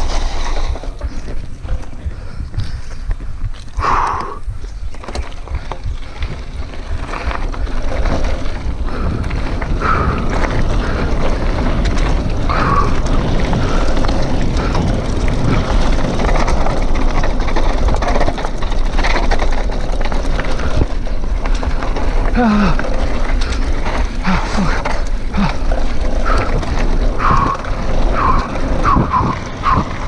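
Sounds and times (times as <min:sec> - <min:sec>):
bike clattering over bumps: 0:00.0 - 0:30.0
bike tyres crunching on rocky dirt: 0:00.0 - 0:30.0
wind buffeting microphone: 0:00.0 - 0:30.0.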